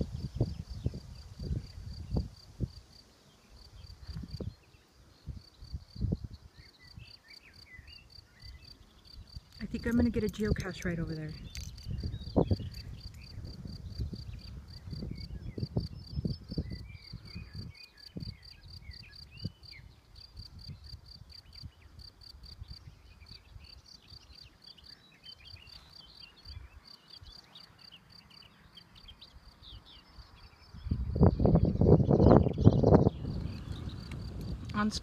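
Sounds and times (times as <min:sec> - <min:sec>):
cricket chirping: 0:00.0 - 0:34.8
small birds singing faintly: 0:00.0 - 0:35.0.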